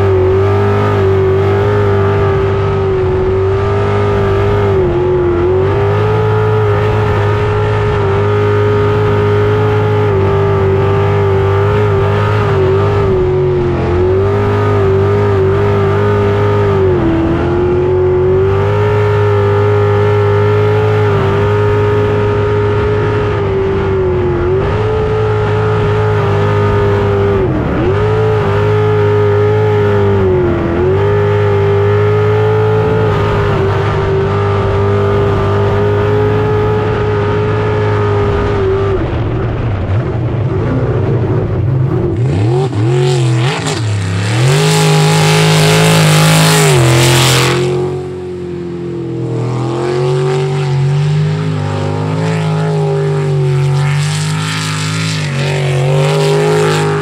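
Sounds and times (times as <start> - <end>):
boat engine running hard: 0.0 - 57.0.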